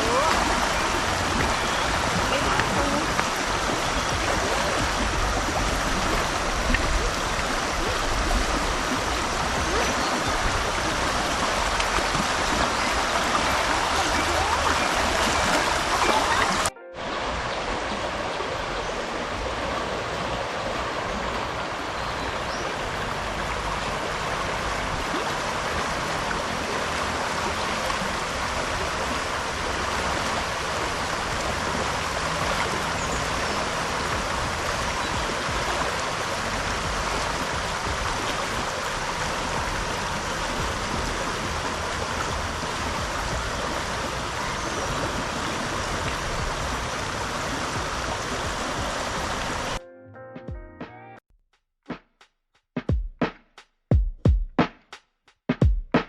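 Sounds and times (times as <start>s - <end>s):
river water rushing: 0.0s - 49.8s.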